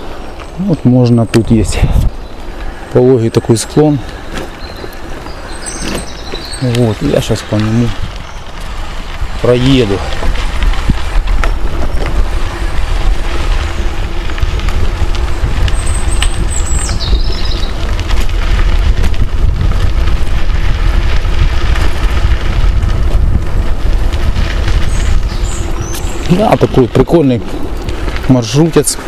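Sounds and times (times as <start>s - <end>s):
bicycle rolling downhill: 0.0s - 29.0s
wind buffeting microphone: 0.0s - 29.0s.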